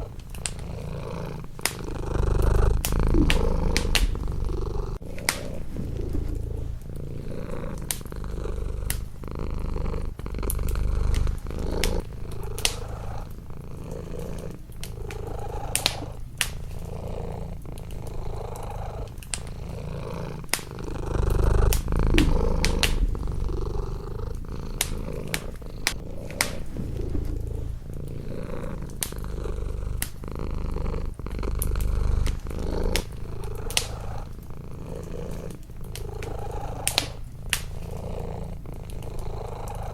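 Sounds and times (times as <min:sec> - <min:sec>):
wood fire crackling and popping: 0:00.0 - 0:39.5
cat purring: 0:00.0 - 0:39.9.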